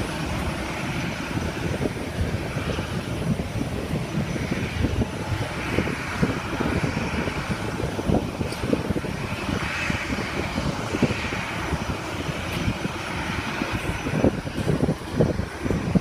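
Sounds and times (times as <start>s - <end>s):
distant jet engines rushing: 0.0s - 16.0s
wind buffeting microphone: 0.0s - 16.0s.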